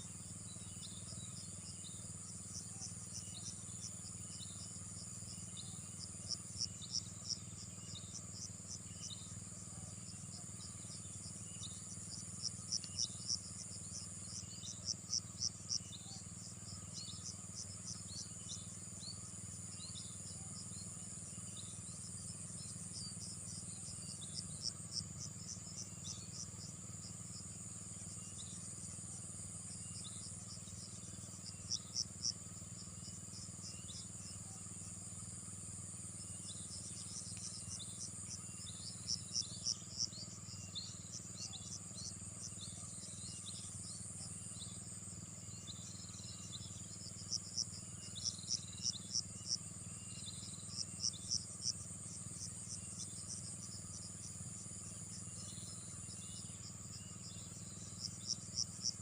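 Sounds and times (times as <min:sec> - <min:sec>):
crickets chirping rapidly: 0:00.0 - 0:59.0
insects droning: 0:00.0 - 0:59.0.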